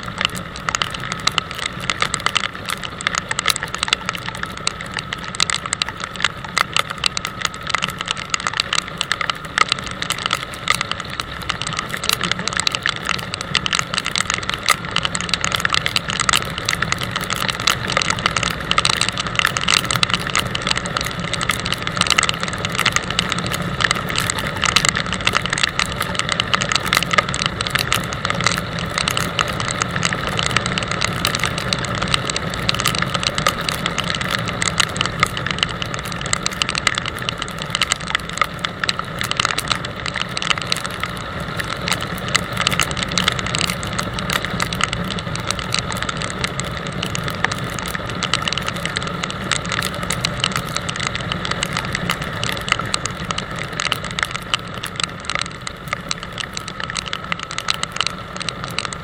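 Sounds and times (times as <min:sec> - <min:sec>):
rattle: 0:00.0 - 0:59.0
road noise on wet road: 0:00.0 - 0:59.0.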